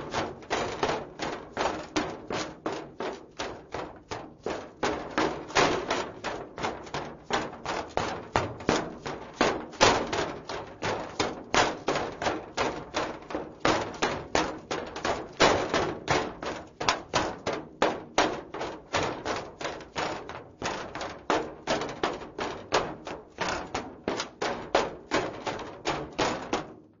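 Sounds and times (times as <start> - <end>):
heeled footsteps running on metal: 0.0 - 27.0.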